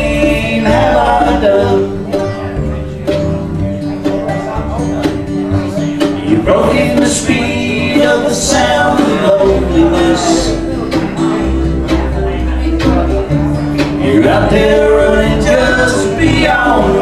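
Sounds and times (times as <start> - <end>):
bass line: 0.0 - 17.0
country song with guitar: 0.0 - 17.0.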